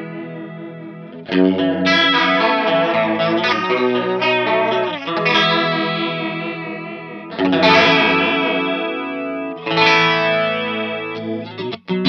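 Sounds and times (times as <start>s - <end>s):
electric guitar chords strummed: 0.0s - 12.0s.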